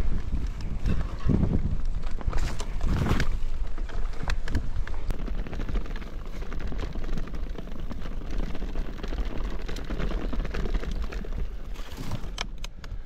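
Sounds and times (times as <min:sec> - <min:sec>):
wind buffeting microphone: 0:00.0 - 0:12.3
clicks and rattles of movement: 0:00.1 - 0:13.0.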